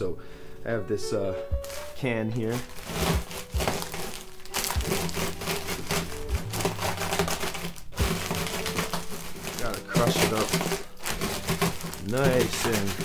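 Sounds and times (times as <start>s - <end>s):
plastic bag crinkling: 1.6s - 13.0s
pretzels crunching: 1.6s - 13.0s.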